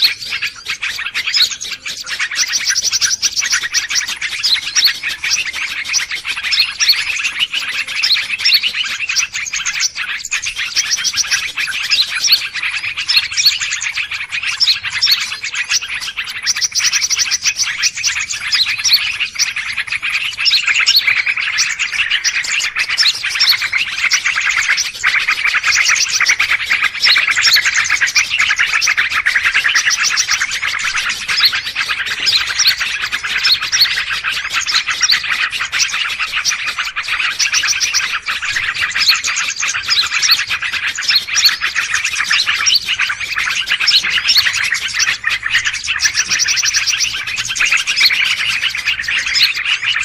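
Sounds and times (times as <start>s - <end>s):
small birds chirping and trilling: 0.0s - 50.0s.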